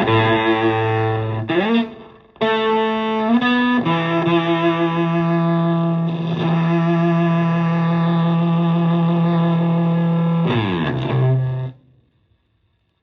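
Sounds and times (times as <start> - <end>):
fuzz-distorted electric guitar notes: 0.0 - 12.0.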